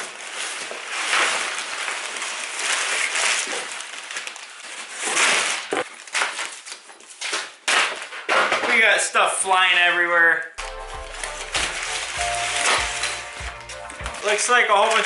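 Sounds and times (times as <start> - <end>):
packing paper rustling and crackling: 0.0 - 8.6, 10.6 - 15.0.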